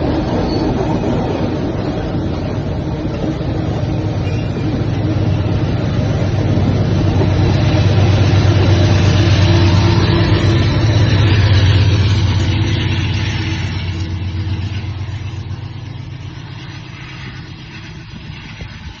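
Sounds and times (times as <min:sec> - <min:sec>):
diesel locomotive engines droning: 0:00.0 - 0:19.0
wheel and rail hiss: 0:00.0 - 0:19.0.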